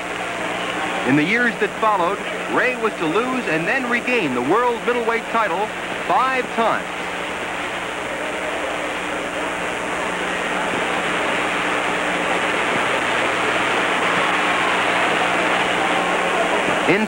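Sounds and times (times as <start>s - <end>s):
crowd roaring: 0.0s - 5.7s, 7.8s - 17.0s
faint low hum: 0.0s - 17.0s.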